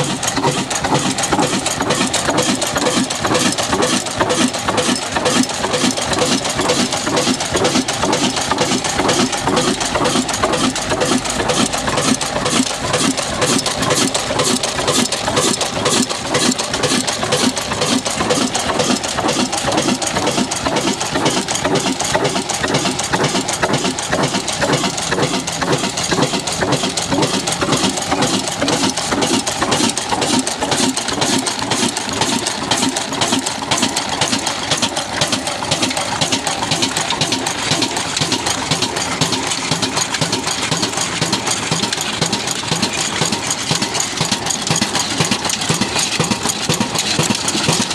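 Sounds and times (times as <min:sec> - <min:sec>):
stationary engine running: 0:00.0 - 0:47.9.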